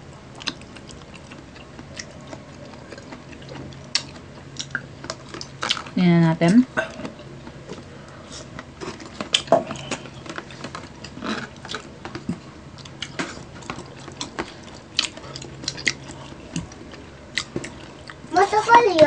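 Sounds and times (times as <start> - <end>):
mouth smacks and chewing: 0.3 - 5.9, 6.9 - 18.2.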